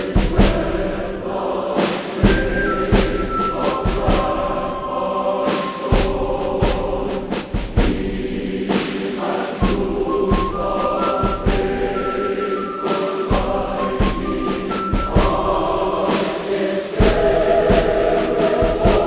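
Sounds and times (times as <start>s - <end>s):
choral voices singing: 0.0s - 19.0s
percussion hits: 0.0s - 19.0s.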